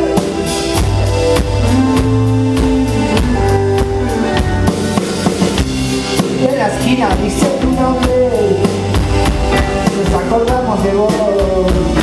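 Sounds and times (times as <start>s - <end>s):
drum kit beat: 0.0s - 12.0s
electric bass notes: 0.0s - 12.0s
rock band playing: 0.0s - 12.0s.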